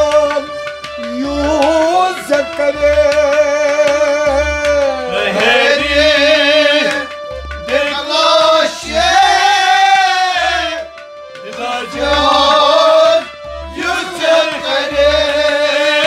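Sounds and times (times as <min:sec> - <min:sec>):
harmonium drone: 0:00.0 - 0:16.0
man singing ornamented line: 0:00.0 - 0:16.0
strummed rabab: 0:00.0 - 0:16.0.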